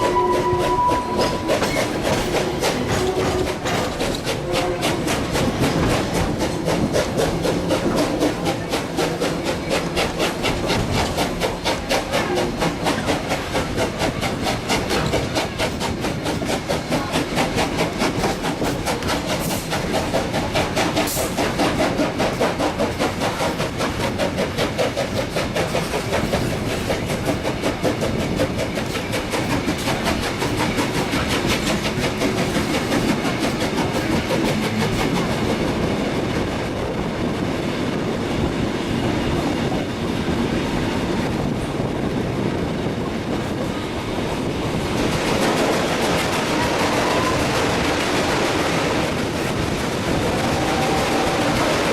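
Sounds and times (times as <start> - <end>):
steam locomotive exhaust chuffs: 0.0 - 51.9
train rolling on rails: 0.0 - 51.9.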